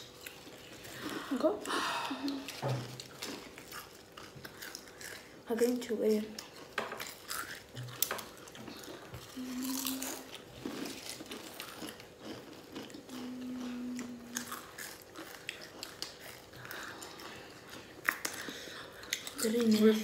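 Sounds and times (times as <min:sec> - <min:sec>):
low steady hum: 0:00.0 - 0:20.0
people crunching chips: 0:00.0 - 0:20.0.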